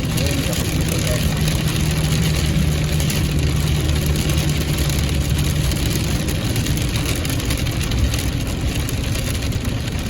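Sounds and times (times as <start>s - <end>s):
car engine hum: 0.0s - 10.0s
rain hissing on wet road: 0.0s - 10.0s.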